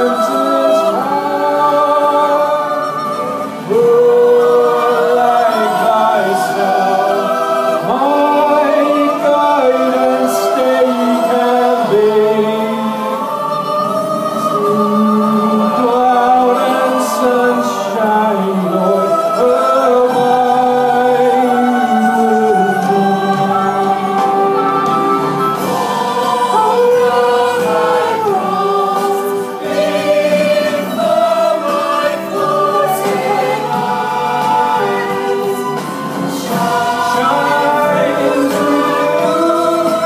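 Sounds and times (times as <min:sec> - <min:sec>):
choir singing in harmony: 0:00.0 - 0:40.0.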